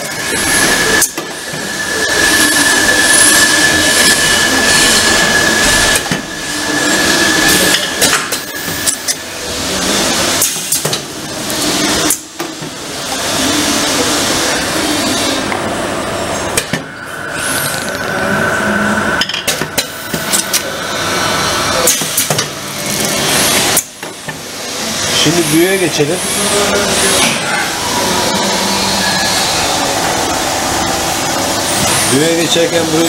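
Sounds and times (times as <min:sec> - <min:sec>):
machine rushing noise: 0:00.0 - 0:33.0.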